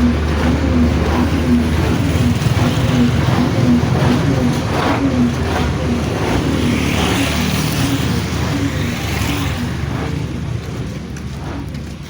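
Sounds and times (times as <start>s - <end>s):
heavy vehicle engine running: 0.0s - 12.0s
road noise: 0.0s - 12.0s.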